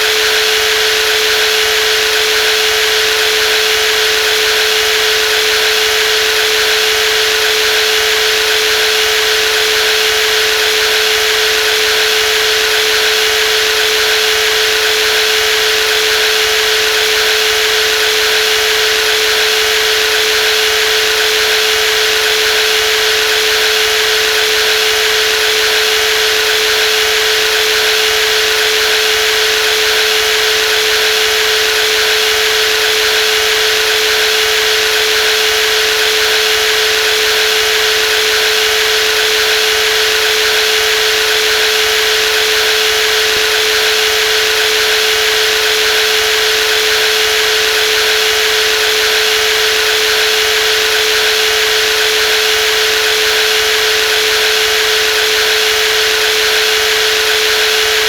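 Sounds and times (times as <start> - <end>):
jigsaw running with whine: 0.0 - 58.0.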